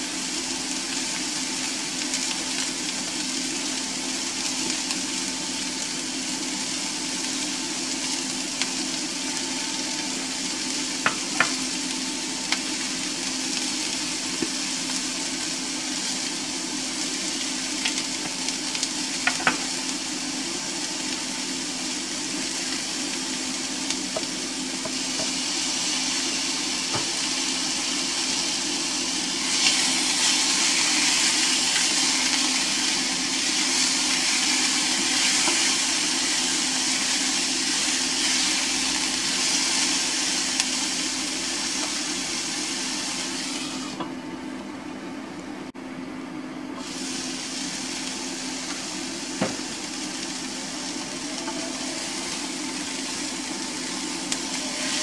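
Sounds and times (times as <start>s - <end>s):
mushrooms sizzling in a pan: 0.0s - 44.1s, 46.8s - 55.0s.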